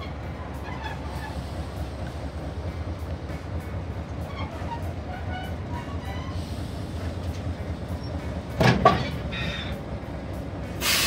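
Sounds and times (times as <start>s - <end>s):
diesel locomotive humming: 0.0s - 11.0s.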